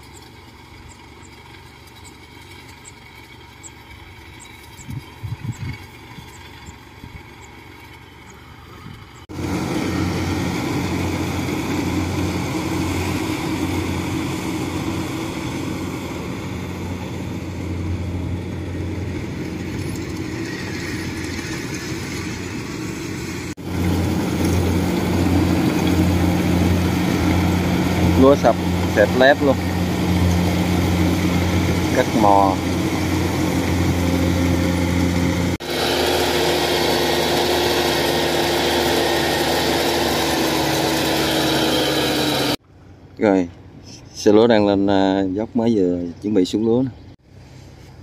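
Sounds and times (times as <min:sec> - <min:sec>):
harvester engines humming: 0:00.0 - 0:44.2.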